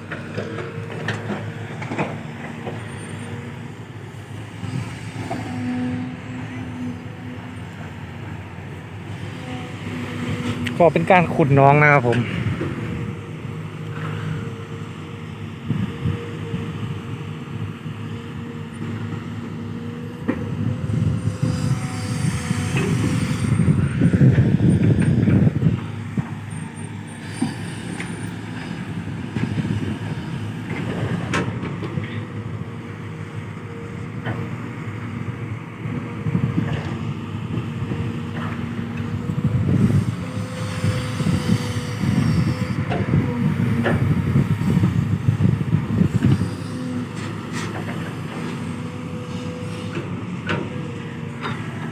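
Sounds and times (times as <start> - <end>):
excavator diesel engine digging: 0.0 - 51.9.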